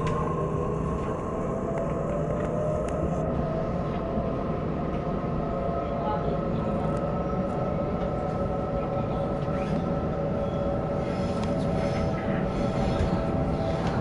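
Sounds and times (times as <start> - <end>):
train wheels rumbling on track: 0.0 - 14.0
train whine: 0.0 - 14.0.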